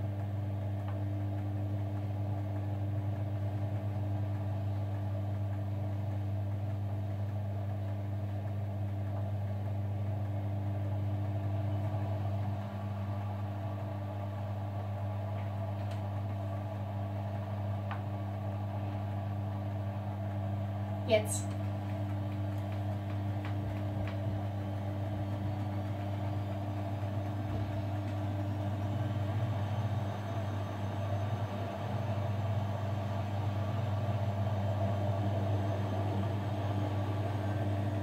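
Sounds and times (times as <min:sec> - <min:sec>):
washing machine motor hum: 0:00.0 - 0:38.0.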